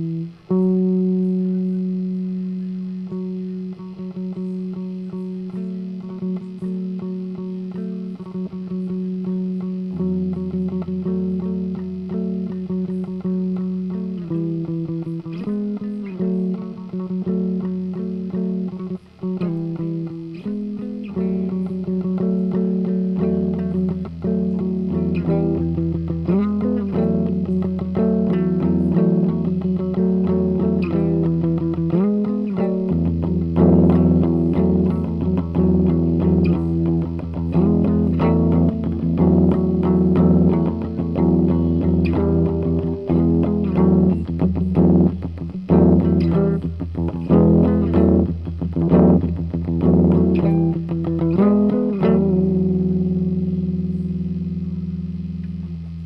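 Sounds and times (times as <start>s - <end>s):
bass guitar line: 0.0s - 56.0s
instrumental guitar music: 0.0s - 56.0s.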